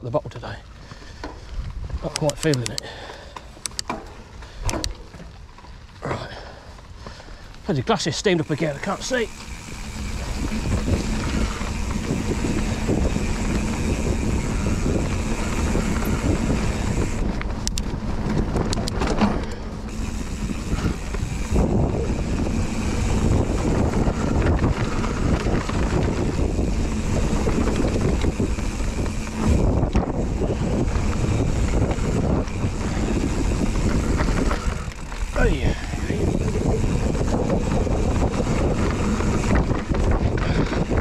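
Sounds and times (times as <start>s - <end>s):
bike tyres on dirt: 0.0s - 41.0s
bike clicks and rattles: 0.4s - 41.0s
wind buffeting microphone: 0.8s - 41.0s.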